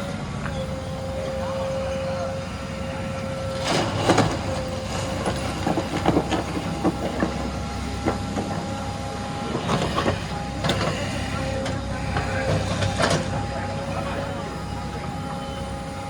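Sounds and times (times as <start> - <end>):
diesel engine whining: 0.0 - 16.0.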